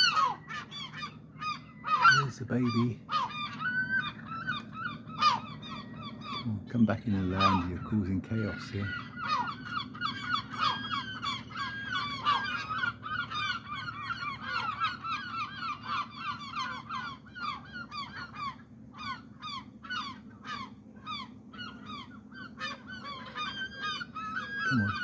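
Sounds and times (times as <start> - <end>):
gulls squawking: 0.0 - 25.0.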